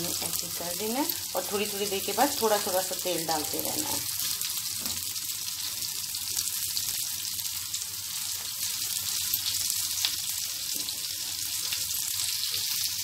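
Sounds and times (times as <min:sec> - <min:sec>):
patties sizzling in oil: 0:00.0 - 0:13.0.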